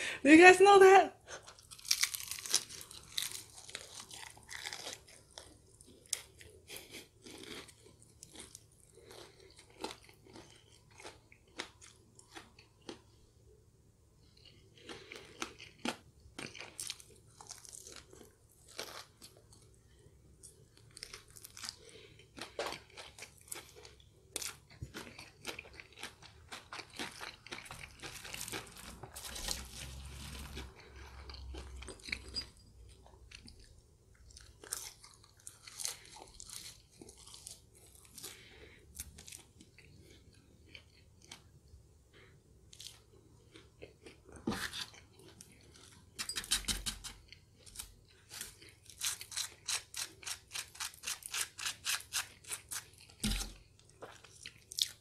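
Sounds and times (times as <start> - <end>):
chewing crispy fried food: 1.3 - 13.4, 14.2 - 46.2, 46.8 - 55.0.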